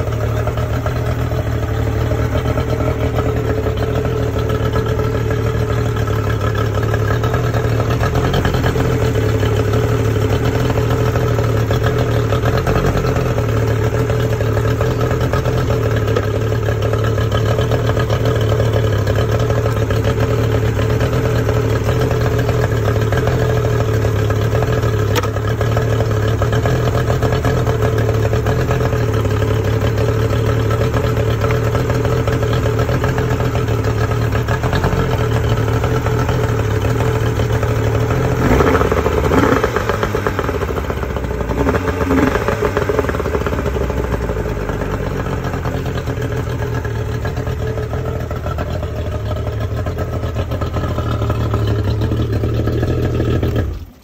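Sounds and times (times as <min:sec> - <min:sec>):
outboard motor idling: 0:00.0 - 0:54.0
outboard motor revving: 0:00.0 - 0:54.0.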